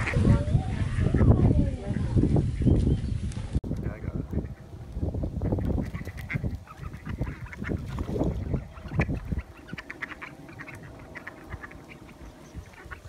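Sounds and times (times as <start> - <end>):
waterfowl honking and quacking: 0.0 - 1.4, 3.9 - 13.0.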